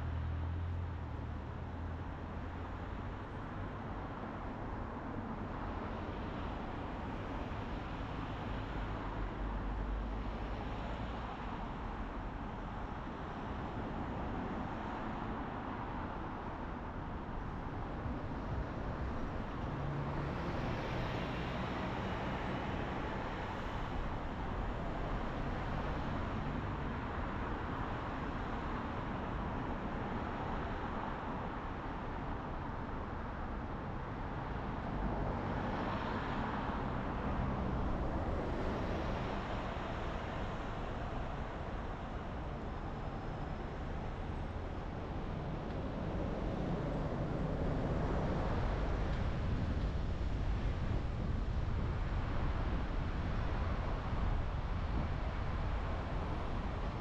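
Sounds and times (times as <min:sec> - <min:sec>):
car road noise: 0:00.0 - 0:57.0.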